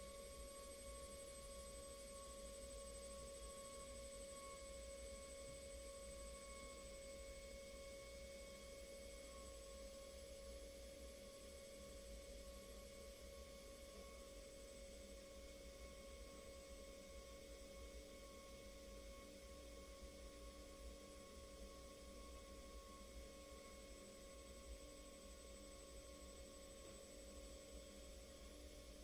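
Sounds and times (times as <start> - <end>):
air turbine spindle whine: 0.0 - 29.0.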